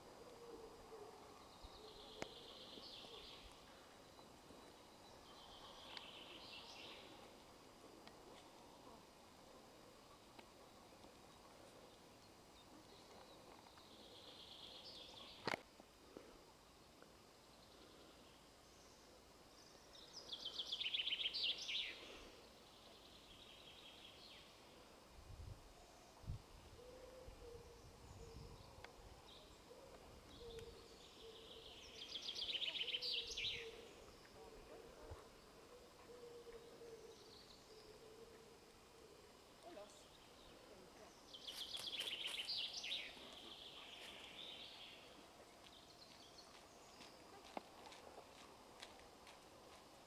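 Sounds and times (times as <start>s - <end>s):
songbird trill: 0.0s - 15.7s, 16.6s - 25.0s, 25.7s - 50.0s
faint outdoor background noise: 0.0s - 50.0s.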